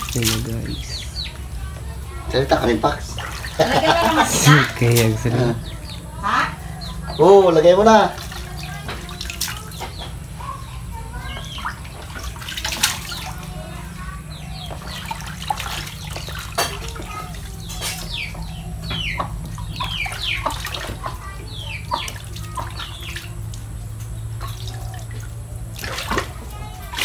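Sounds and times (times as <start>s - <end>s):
hands rinsing in water basin: 0.0s - 5.9s, 7.1s - 27.0s
birds chirping: 0.0s - 27.0s.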